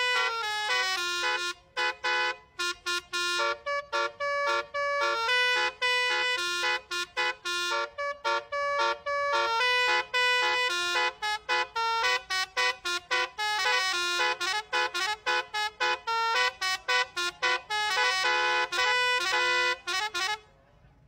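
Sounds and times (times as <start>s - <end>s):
bus musical horn playing tune: 0.0s - 20.6s.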